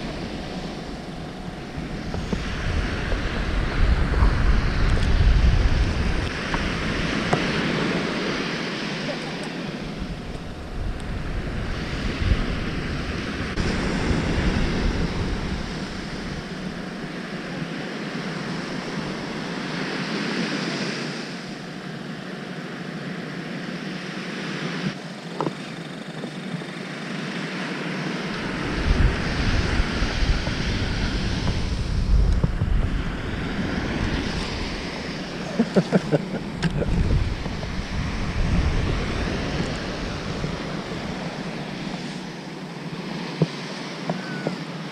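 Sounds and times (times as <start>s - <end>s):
surf breaking on beach: 0.0s - 21.6s, 27.3s - 44.9s
wind buffeting microphone: 0.0s - 21.7s, 28.2s - 44.9s.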